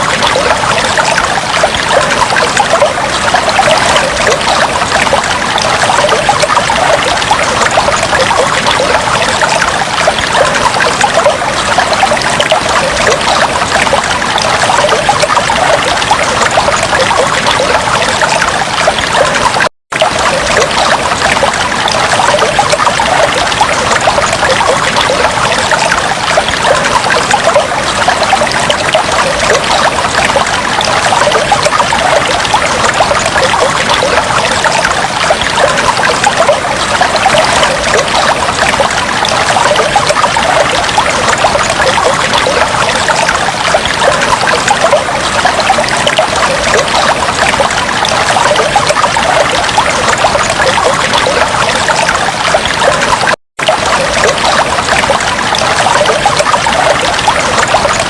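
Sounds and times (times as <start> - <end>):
aquarium water trickling and bubbling: 0.0 - 58.0.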